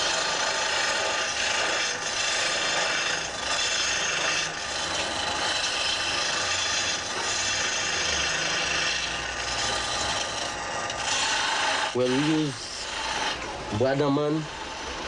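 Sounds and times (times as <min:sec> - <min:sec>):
lathe tool shaving wood: 0:00.0 - 0:15.0.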